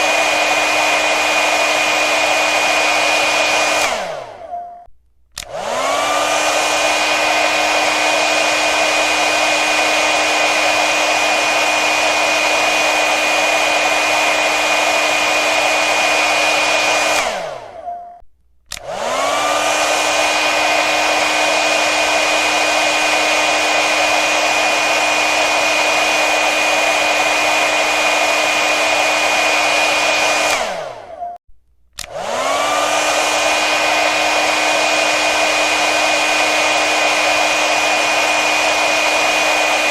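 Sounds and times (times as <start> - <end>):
hair dryer running: 0.0 - 4.6, 5.4 - 17.9, 18.7 - 31.3, 32.0 - 39.9.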